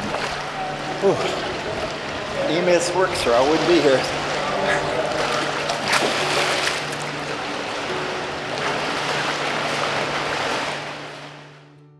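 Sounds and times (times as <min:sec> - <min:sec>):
swimmer splashing: 0:00.0 - 0:11.6
pool water washing: 0:00.0 - 0:11.7.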